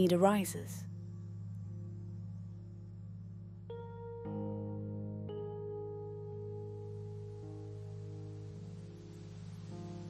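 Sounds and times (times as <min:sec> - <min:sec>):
gentle background music: 0:00.0 - 0:10.0.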